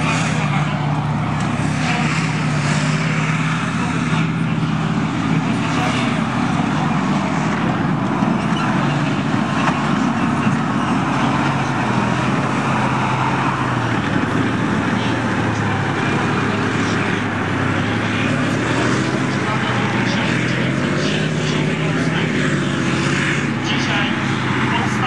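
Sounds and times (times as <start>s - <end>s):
tank diesel engine running: 0.0s - 25.0s.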